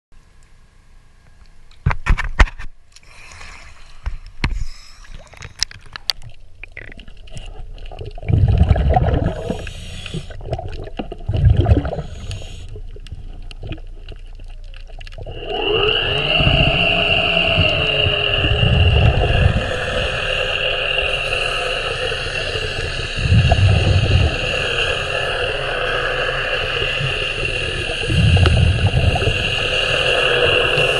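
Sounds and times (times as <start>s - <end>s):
underwater water noise: 3.0s - 30.9s
exhaled air bubbles rumbling: 3.1s - 30.9s.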